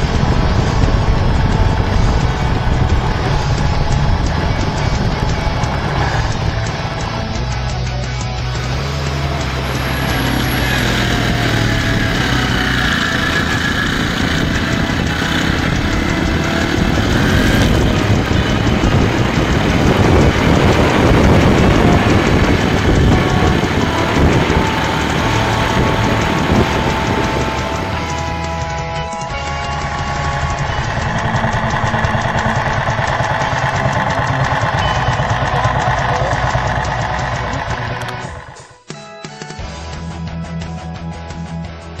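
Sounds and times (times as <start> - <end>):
motorcycle engine running: 0.0 - 38.8
wind and road noise: 0.0 - 38.8.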